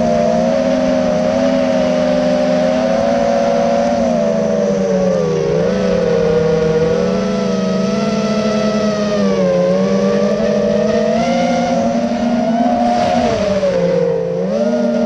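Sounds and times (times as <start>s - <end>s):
motorcycle engine at high revs: 0.0s - 15.0s
wind noise: 0.0s - 15.0s.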